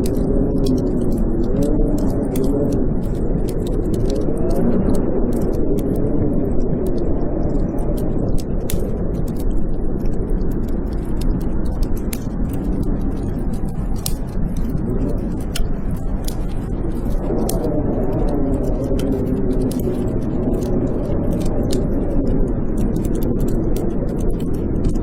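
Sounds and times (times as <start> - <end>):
wind howling: 0.0 - 25.0
wood fire crackling and popping: 0.0 - 25.0.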